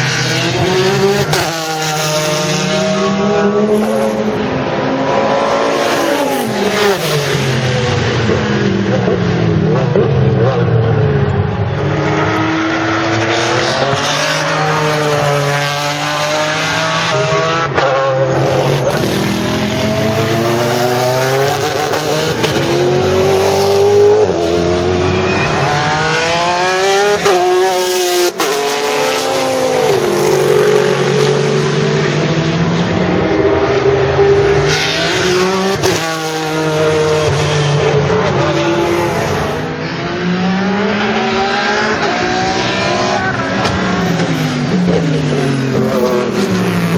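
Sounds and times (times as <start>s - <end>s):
racing engine revving: 0.0s - 46.9s.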